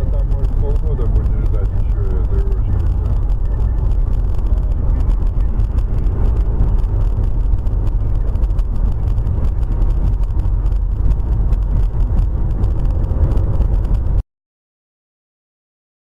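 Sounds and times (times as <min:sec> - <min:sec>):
road noise: 0:00.0 - 0:14.2
vehicle engine rumble: 0:00.0 - 0:14.2.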